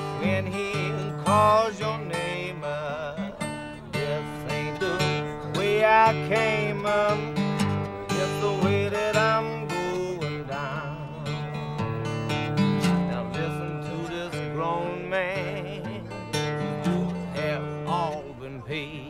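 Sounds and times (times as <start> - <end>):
acoustic guitar picking: 0.0 - 19.0.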